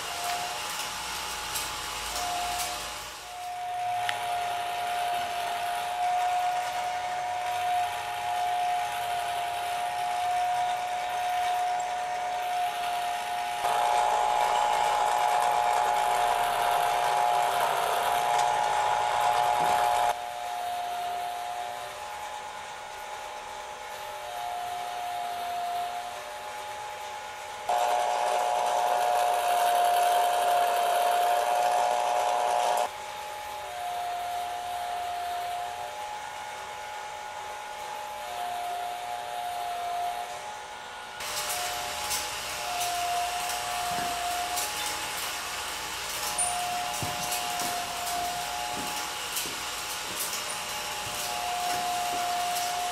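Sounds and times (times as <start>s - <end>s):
small electric motor whine: 0.0s - 52.9s.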